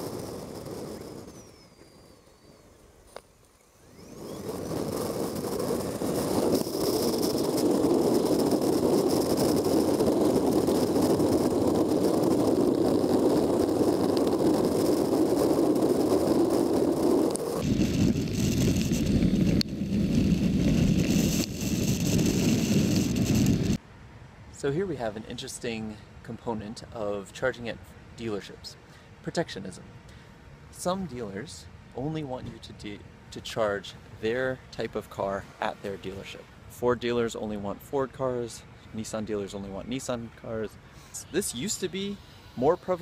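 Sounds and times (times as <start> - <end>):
wind and road noise: 0.0 - 43.0.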